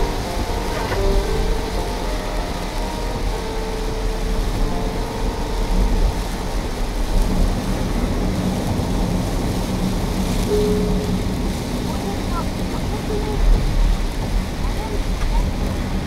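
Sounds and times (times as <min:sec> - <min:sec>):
car driving on wet road: 0:00.0 - 0:16.0
faint held musical notes: 0:00.0 - 0:16.0.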